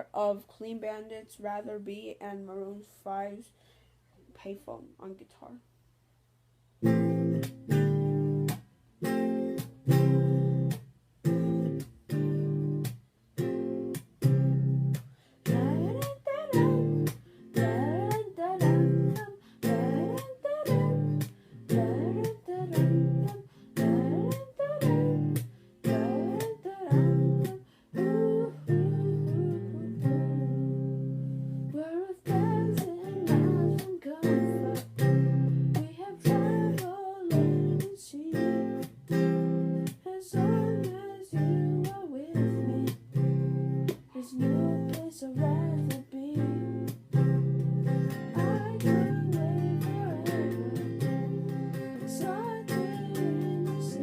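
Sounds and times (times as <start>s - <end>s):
acoustic guitar strumming: 6.8s - 37.8s, 38.4s - 54.0s.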